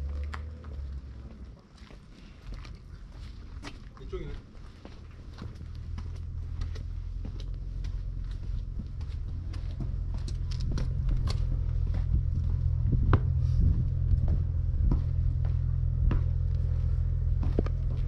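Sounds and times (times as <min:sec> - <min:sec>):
footsteps on pavement: 0:00.0 - 0:18.0
steady low rumble: 0:00.0 - 0:18.0.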